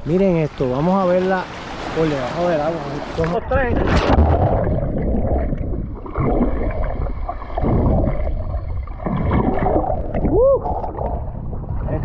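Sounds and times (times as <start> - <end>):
underwater water sloshing: 0.0 - 12.0.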